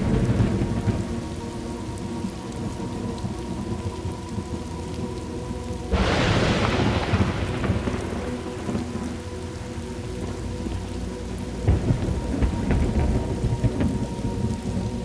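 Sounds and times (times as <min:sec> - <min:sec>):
thunder crack and rumble: 0:00.0 - 0:04.5, 0:05.9 - 0:15.0
steady rain: 0:00.0 - 0:15.0.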